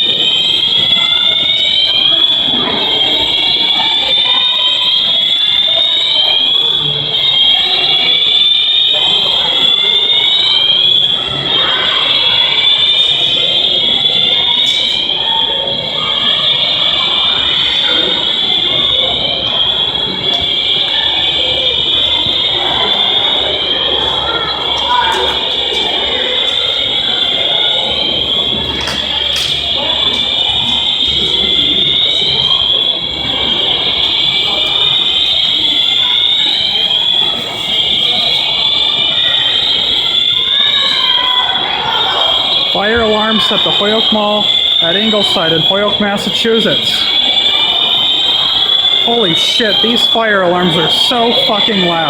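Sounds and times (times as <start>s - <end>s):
fire alarm siren tones: 0.0s - 52.0s
low background murmur: 0.0s - 52.0s.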